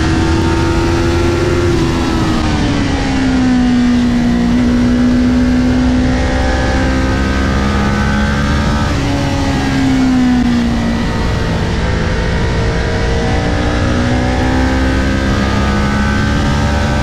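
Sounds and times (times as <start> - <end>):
motorcycle engine running hard: 0.0 - 17.0
wind rush: 0.0 - 17.0.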